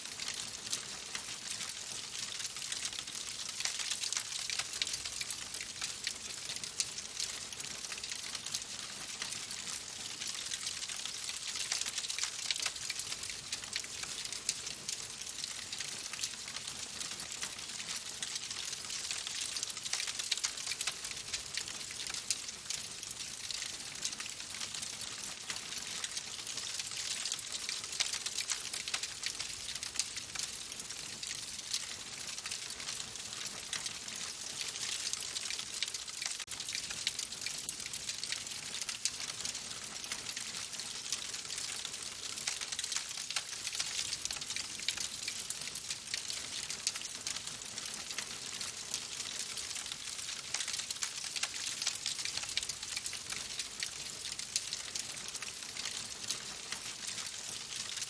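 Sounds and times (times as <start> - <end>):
wood fire crackling: 0.1 - 14.7, 17.4 - 24.4, 25.0 - 47.1, 47.8 - 58.0.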